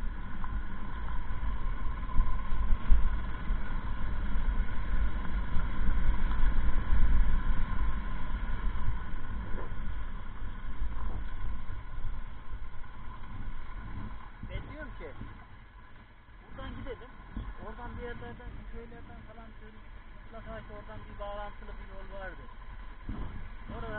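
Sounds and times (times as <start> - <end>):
motorcycle engine running: 0.0 - 23.9
wind rumble on microphone: 0.0 - 23.9.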